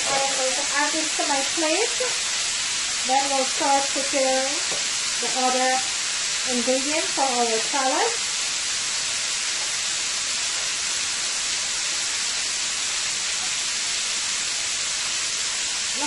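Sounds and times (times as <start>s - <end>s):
steaks sizzling in a skillet: 0.0s - 16.0s.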